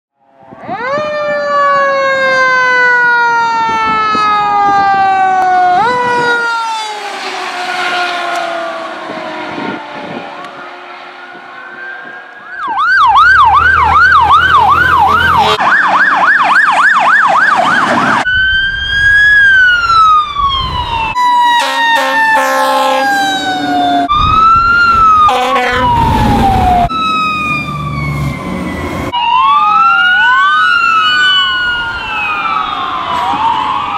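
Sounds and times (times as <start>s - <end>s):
fire truck sirens wailing and yelping: 0.2s - 33.9s.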